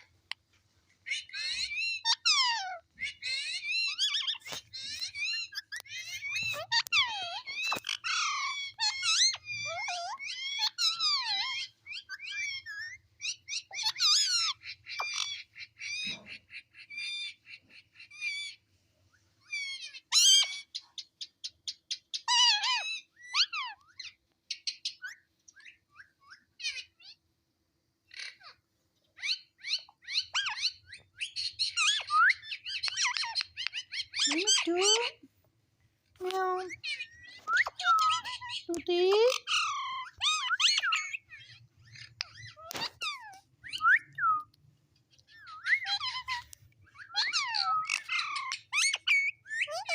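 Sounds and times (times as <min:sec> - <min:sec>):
parrot chattering and whistling: 0:01.0 - 0:18.6, 0:19.4 - 0:27.2, 0:29.2 - 0:35.2, 0:36.4 - 0:44.6, 0:45.2 - 0:49.9.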